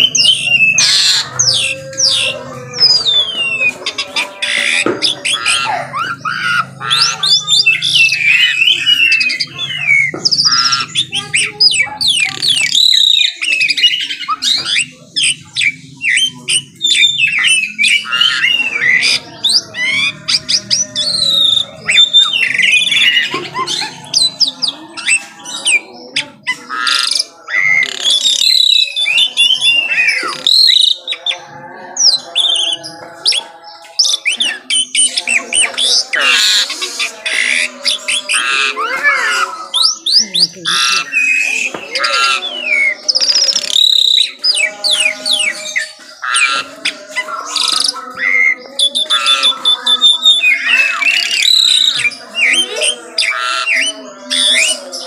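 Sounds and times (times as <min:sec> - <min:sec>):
bird singing whistled song: 0:00.0 - 0:03.8, 0:04.4 - 0:31.4, 0:32.0 - 0:36.7, 0:37.3 - 0:46.7, 0:47.5 - 0:55.0.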